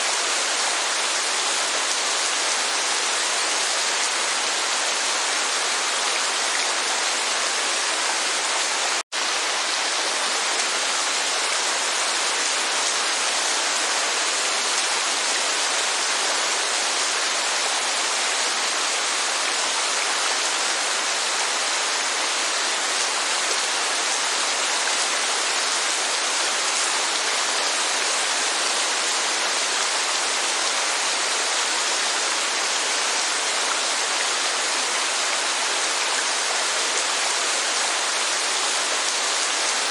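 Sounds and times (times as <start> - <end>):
steady rain: 0.0 - 39.9
waterfall rushing: 0.0 - 39.9.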